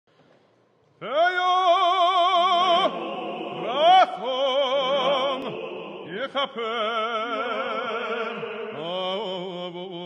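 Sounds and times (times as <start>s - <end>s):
man singing with vibrato: 1.0s - 10.0s
male choir holding low chord: 1.3s - 10.0s.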